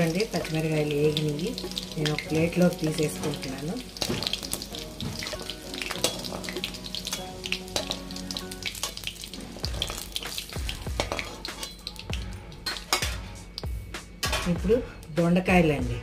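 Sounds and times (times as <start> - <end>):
hot oil sizzling and crackling: 0.0 - 14.9.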